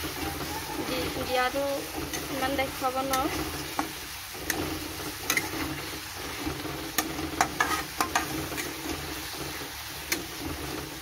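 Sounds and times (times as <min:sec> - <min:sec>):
food frying in oil: 0:00.0 - 0:11.0
metal spatula scraping pan: 0:00.0 - 0:11.0.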